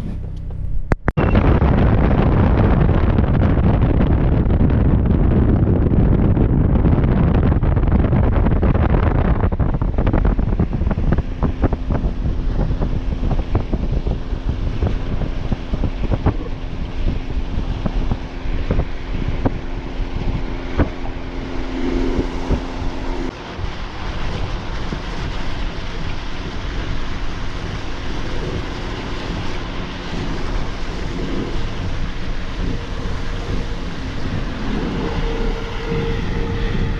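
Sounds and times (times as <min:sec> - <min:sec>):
steady low hum: 0:00.0 - 0:36.9
wind buffeting microphone: 0:00.0 - 0:36.9.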